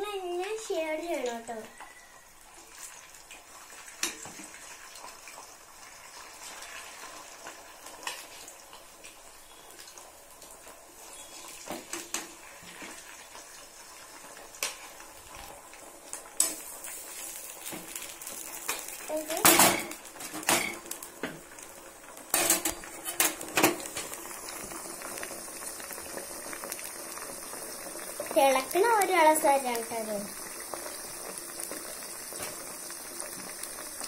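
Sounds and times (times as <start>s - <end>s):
potatoes frying in hot oil: 0.0s - 34.0s.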